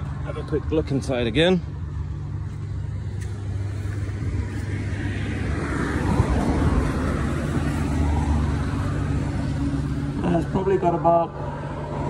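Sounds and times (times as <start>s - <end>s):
road vehicle passing: 0.0s - 12.0s.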